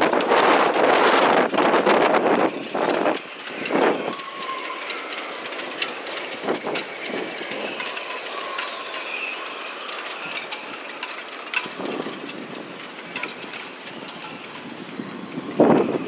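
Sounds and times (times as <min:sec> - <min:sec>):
gusts buffeting microphone: 0:00.0 - 0:16.0
strong storm wind: 0:00.0 - 0:16.0
high whistling tones: 0:00.4 - 0:16.0.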